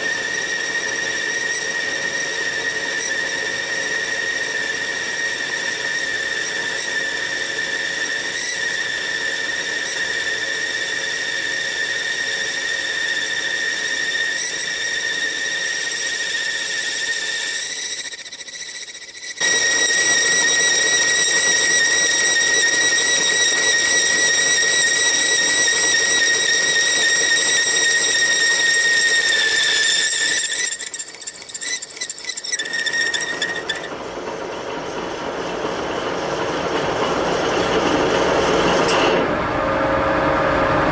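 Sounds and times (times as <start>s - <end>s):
machine tool high-pitched whine: 0.0s - 40.9s.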